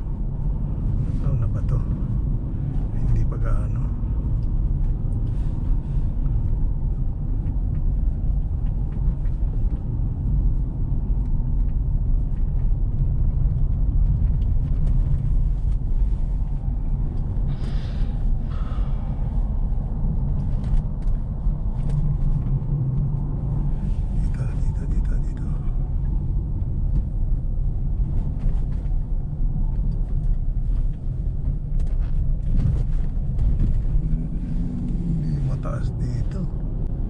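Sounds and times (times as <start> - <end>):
car engine and tyres rumbling: 0.0 - 37.0.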